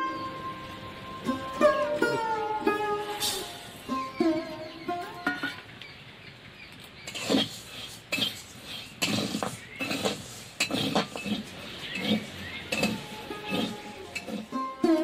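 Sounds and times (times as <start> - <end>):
metal spatula scraping metal pan: 1.3 - 5.6, 7.1 - 15.0.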